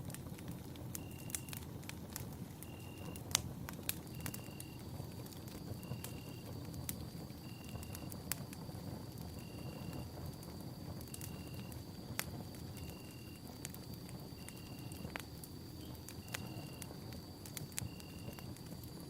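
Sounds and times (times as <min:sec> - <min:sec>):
campfire flames rumbling: 0:00.0 - 0:19.0
fire crackles and pops: 0:00.0 - 0:19.0
faint high whine: 0:00.9 - 0:01.7, 0:02.5 - 0:03.3, 0:04.0 - 0:19.0.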